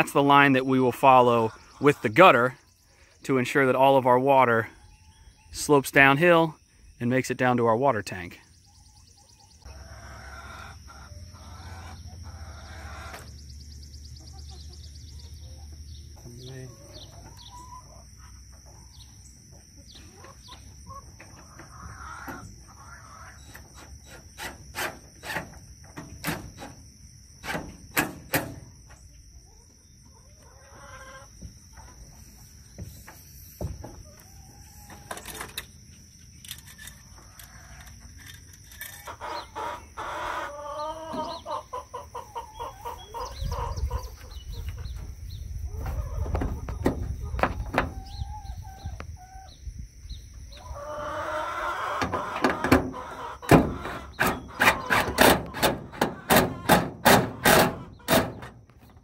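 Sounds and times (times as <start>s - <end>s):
chickens clucking: 0.0s - 6.6s, 7.4s - 27.0s, 28.4s - 35.9s, 37.0s - 59.0s.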